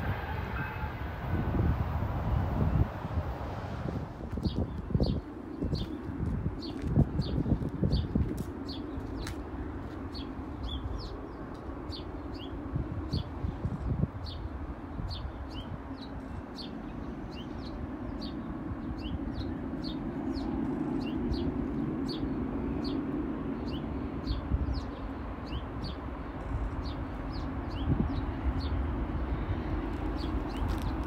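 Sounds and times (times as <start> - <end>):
distant freight train rumble: 0.0 - 31.0.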